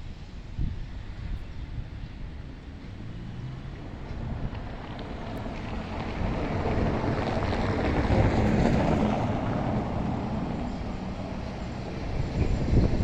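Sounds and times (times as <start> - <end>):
wind noise on microphone: 0.0 - 13.0
jet engines rumbling: 0.2 - 13.0.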